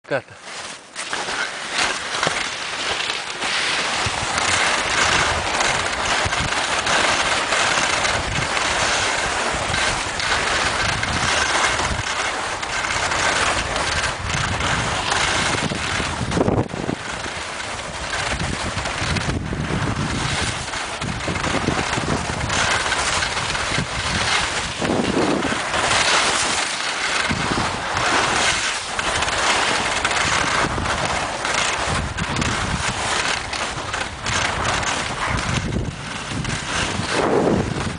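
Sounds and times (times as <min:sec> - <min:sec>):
skis scraping over snow: 0:00.1 - 0:37.9
wind buffeting microphone: 0:04.0 - 0:37.9.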